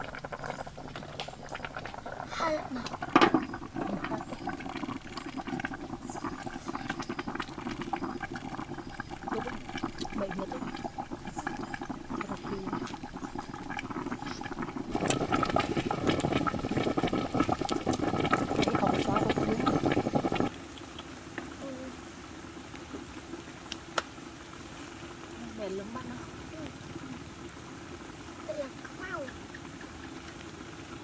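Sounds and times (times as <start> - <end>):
bubbling simmer: 0.0 - 31.0
wood fire crackling: 0.0 - 31.0.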